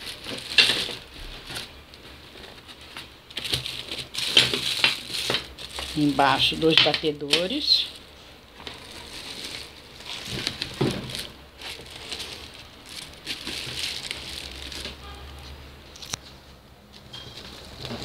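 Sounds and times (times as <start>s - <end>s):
plastic wrapping crinkling: 0.0s - 16.4s, 17.0s - 18.0s.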